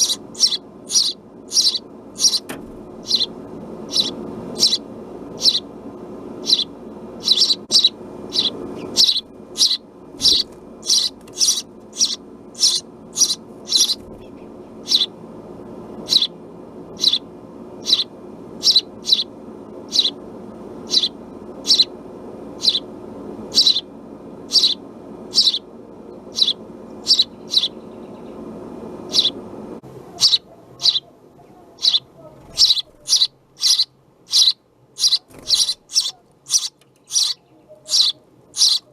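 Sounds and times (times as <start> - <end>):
sparrow chirping: 0.0 - 5.7, 6.4 - 15.2, 16.0 - 20.2, 20.8 - 22.9, 23.5 - 29.4, 30.2 - 31.1, 31.7 - 38.9
steady hum: 0.0 - 38.9.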